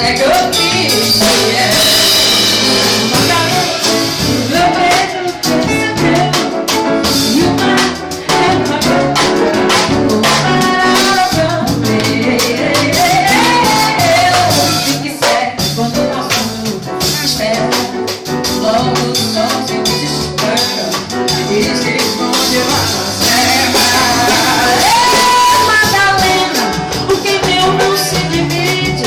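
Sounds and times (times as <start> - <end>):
melodic lead line: 0.0 - 15.2, 16.0 - 29.0
live band playing: 0.0 - 29.0.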